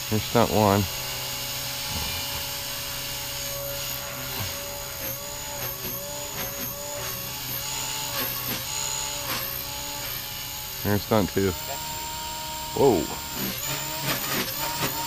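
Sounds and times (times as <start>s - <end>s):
rc helicopter motor whining: 0.0s - 15.0s.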